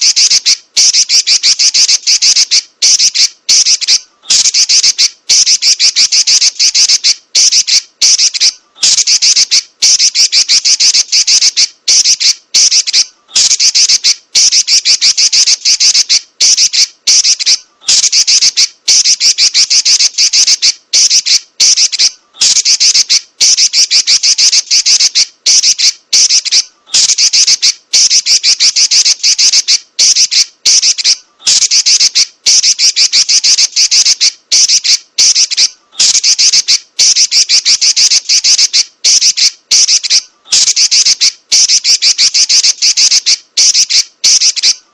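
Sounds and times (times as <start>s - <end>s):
bird shrill rolling chatter: 0.0s - 44.9s.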